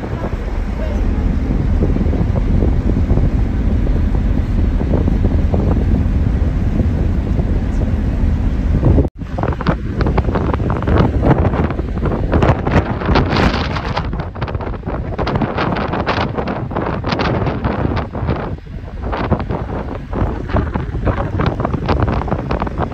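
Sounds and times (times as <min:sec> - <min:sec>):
wind blasting across microphone: 0:00.0 - 0:22.9.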